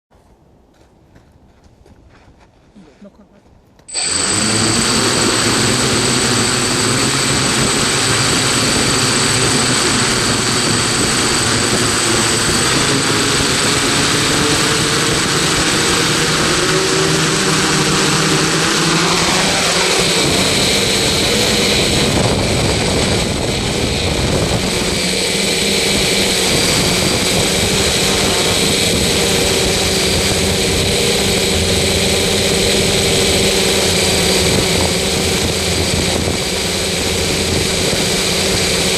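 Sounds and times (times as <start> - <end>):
loud motor noise: 3.9 - 38.9.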